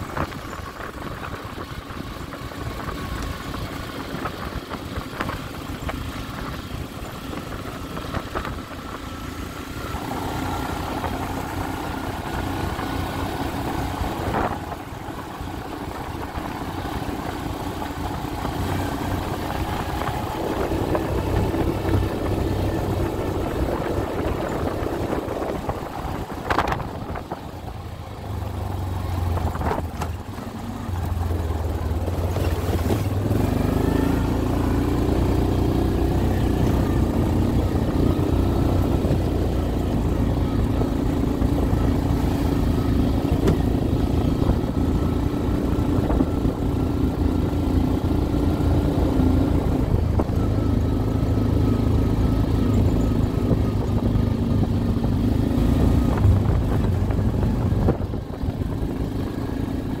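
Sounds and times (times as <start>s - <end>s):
atv engine droning: 0.0s - 60.0s.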